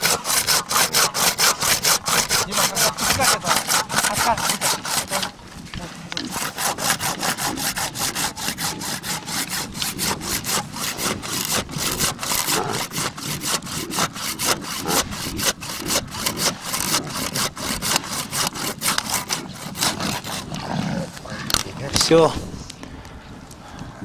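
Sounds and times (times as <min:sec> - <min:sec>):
handsaw cutting antler: 0:00.0 - 0:22.2.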